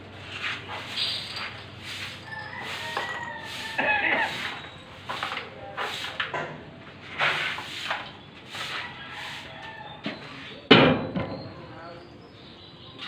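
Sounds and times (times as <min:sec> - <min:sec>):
broom sweeping concrete floor: 0:00.0 - 0:10.7.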